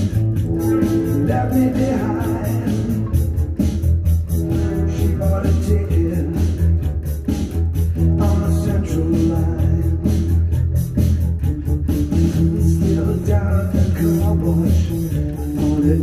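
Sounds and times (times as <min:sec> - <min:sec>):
drums beating: 0:00.0 - 0:16.0
electric bass line: 0:00.0 - 0:16.0
rock band backing: 0:00.0 - 0:16.0.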